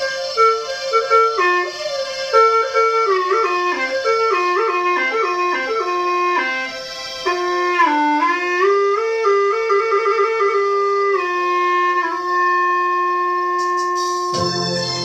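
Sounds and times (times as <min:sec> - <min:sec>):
gourd flute playing slow melody: 0:00.0 - 0:15.0.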